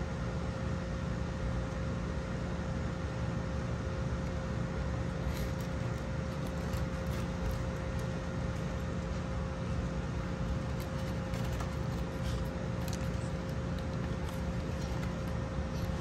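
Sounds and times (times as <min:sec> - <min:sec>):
faint constant tone: 0:00.0 - 0:16.0
low hum and hiss: 0:00.0 - 0:16.0.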